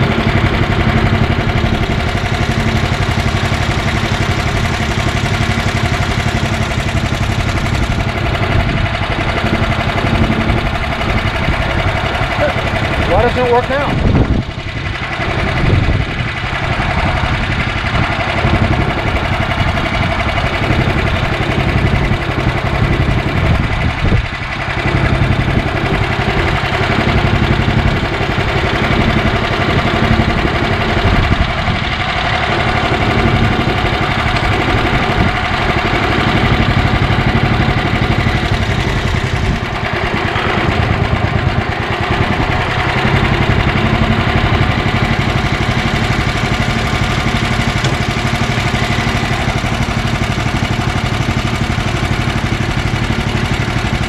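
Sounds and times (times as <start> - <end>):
single-cylinder engine running: 0.0 - 54.0.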